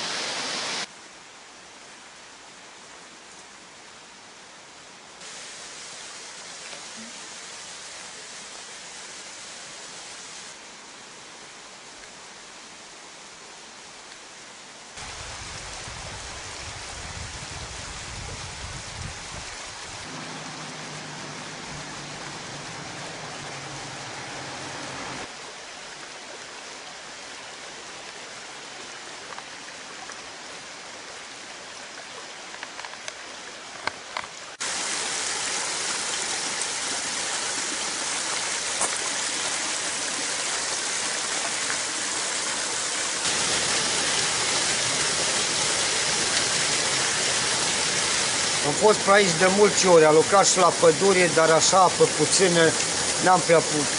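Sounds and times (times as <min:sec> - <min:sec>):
waterfall rushing water: 0:00.0 - 0:53.9.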